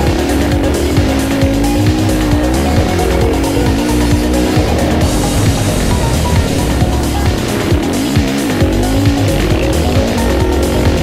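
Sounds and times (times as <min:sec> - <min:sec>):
background music with steady beat: 0:00.0 - 0:11.0
quad engine revving: 0:00.0 - 0:11.0.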